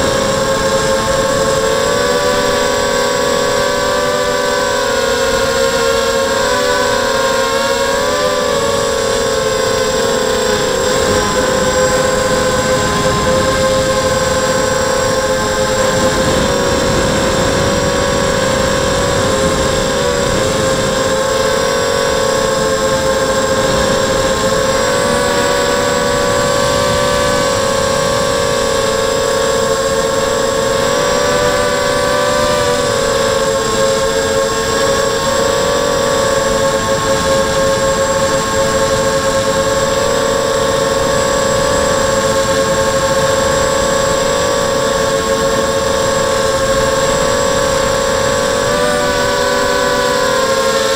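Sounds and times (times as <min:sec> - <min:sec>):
drone motors whining: 0:00.0 - 0:50.9
wind noise: 0:00.0 - 0:50.9.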